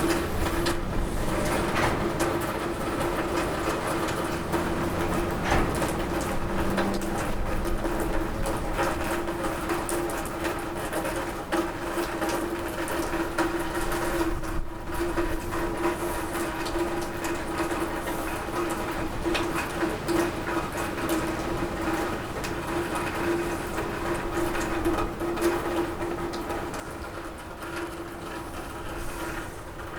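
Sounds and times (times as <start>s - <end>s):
rain falling on a roof: 0.0s - 29.9s.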